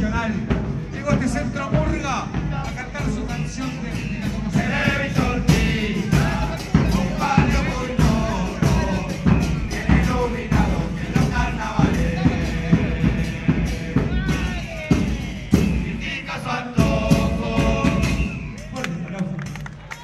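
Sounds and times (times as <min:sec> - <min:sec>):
bass drums and cymbals beating: 0:00.0 - 0:20.0
melodic voices or instruments: 0:02.0 - 0:19.2.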